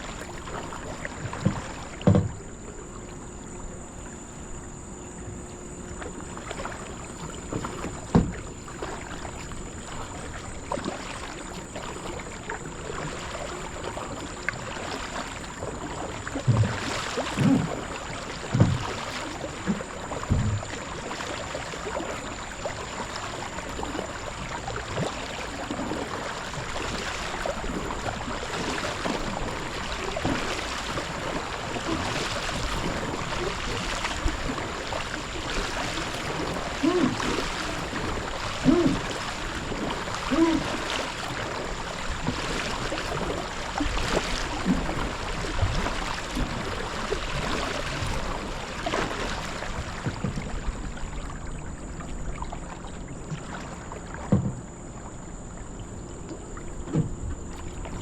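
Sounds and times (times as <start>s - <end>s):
kayak paddle splashing in water: 0.0s - 58.0s.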